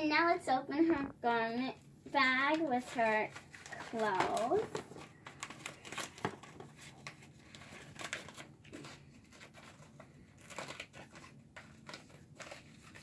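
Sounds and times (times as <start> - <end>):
plastic packaging crinkling: 2.1 - 13.0.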